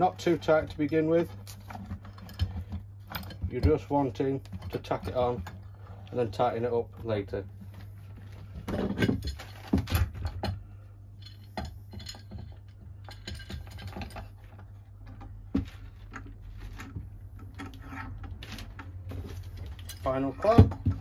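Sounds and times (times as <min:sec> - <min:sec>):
metal clamps clinking and knocking: 0:00.2 - 0:05.8, 0:08.6 - 0:21.0.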